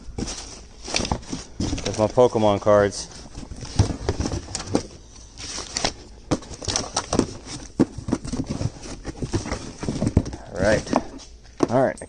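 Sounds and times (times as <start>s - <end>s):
items knocking and clunking: 0.0s - 2.4s, 3.1s - 12.0s
rustling in cardboard box: 0.0s - 11.3s.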